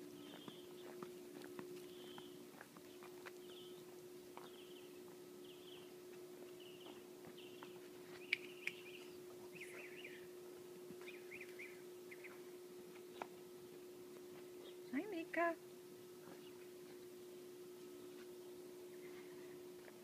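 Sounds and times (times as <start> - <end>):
small birds chirping: 0.0 - 10.4, 11.0 - 13.6, 14.4 - 15.2, 16.2 - 19.4
steady low hum: 0.0 - 20.0.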